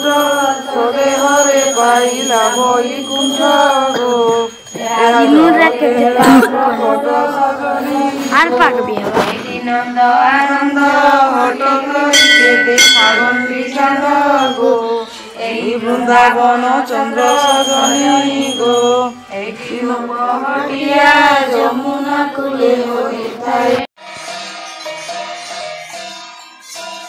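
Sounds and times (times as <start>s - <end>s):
person chanting a melody: 0.0s - 23.8s.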